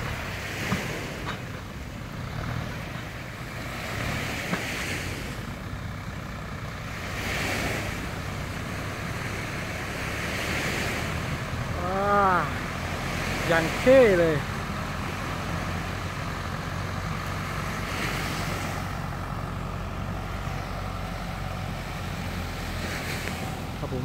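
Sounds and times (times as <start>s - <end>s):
small waves washing ashore: 0.0s - 24.0s
tractor engine running: 0.0s - 24.0s.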